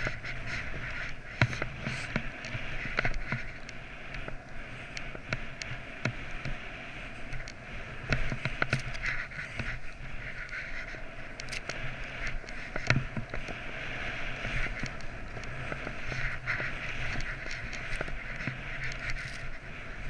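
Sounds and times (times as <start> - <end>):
skis running through snow: 0.0 - 20.0
wind on microphone: 0.0 - 20.0.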